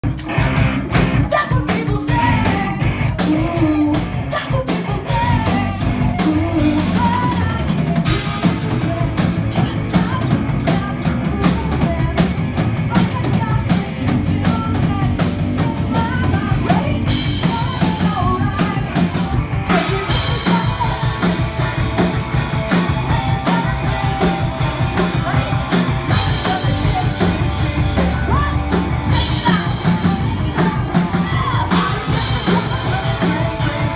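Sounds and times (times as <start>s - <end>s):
distorted guitars: 0.0s - 33.9s
metal band playing live: 0.0s - 33.9s
pounding bass drum: 0.0s - 33.9s
vocals: 0.0s - 33.9s.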